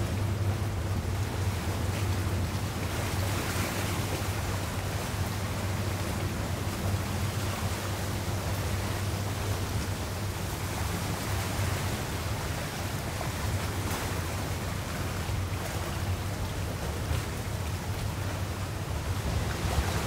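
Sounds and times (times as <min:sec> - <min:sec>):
choppy sea water: 0:00.0 - 0:20.0
low steady rumble: 0:00.0 - 0:20.0.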